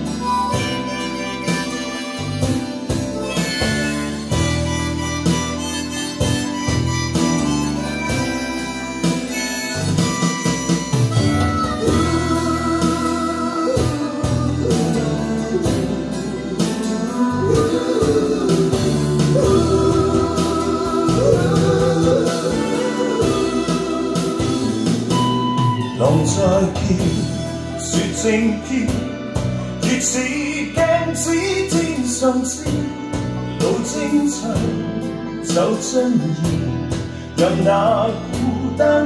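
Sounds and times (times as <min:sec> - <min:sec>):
pop ballad over speakers: 0:00.0 - 0:39.0.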